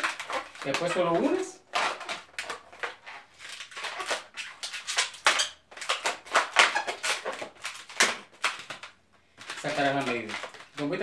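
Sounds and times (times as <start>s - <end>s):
balloon squeaking and rubbing: 0.0s - 11.0s.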